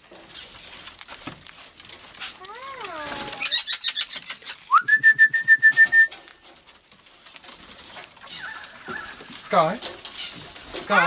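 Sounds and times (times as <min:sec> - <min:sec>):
quick clicks and rasping: 0:00.0 - 0:11.0.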